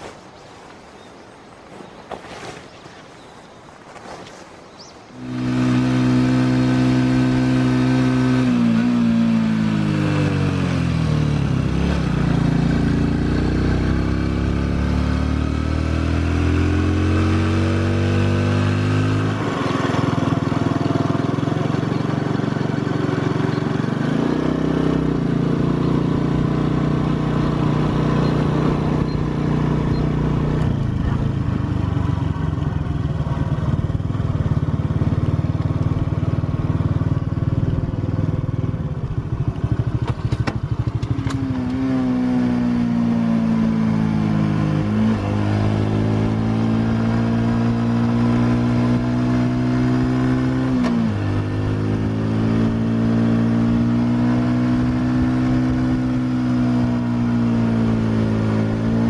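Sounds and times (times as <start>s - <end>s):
motorcycle engine running: 5.2s - 59.0s.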